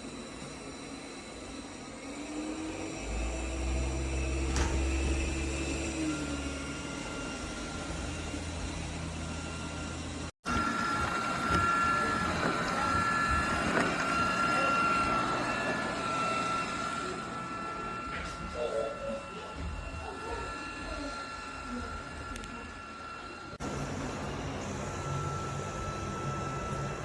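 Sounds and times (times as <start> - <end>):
robot vacuum hum and whine: 0.0 - 27.0.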